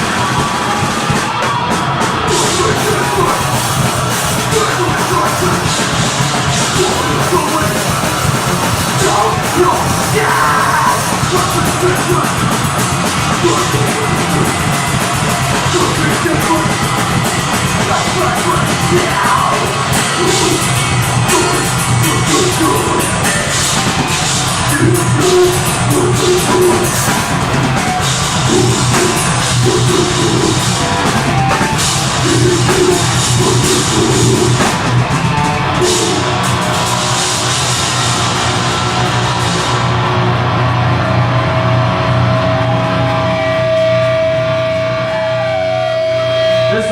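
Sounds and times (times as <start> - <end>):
distorted guitars and bass: 0.0 - 46.9
fast pounding drums: 0.0 - 46.9
harsh shouted vocals: 0.0 - 46.9.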